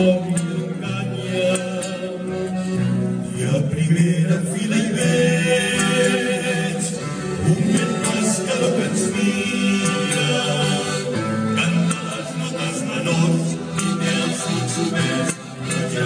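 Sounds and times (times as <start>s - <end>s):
group singing in harmony: 0.0s - 2.5s, 3.2s - 16.0s.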